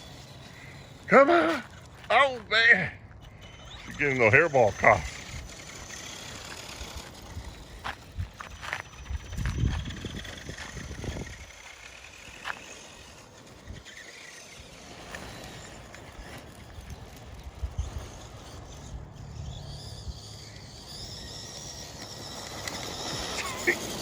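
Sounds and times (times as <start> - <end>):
electric motor whine: 0.0 - 24.0
toy truck running noise: 0.0 - 24.0.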